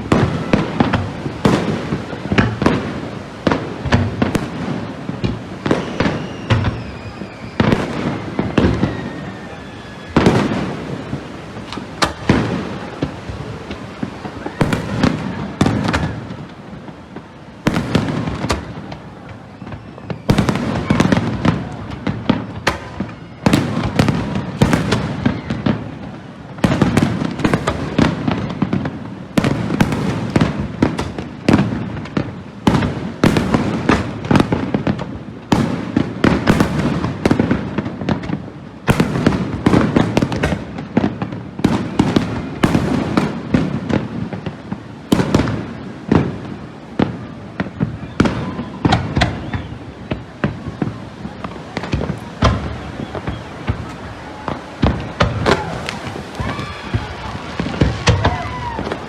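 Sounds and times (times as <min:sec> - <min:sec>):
fireworks bursts: 0:00.0 - 0:59.0
fireworks crackle: 0:00.0 - 0:59.0.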